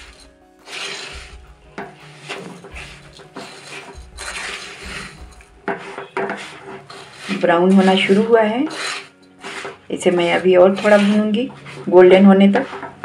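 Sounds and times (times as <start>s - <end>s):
spatula scraping semolina in pan: 0.0s - 13.0s.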